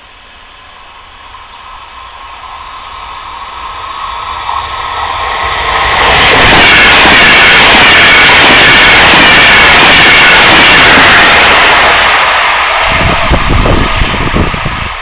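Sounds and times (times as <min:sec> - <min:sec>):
electric train rushing past: 0:00.0 - 0:15.0.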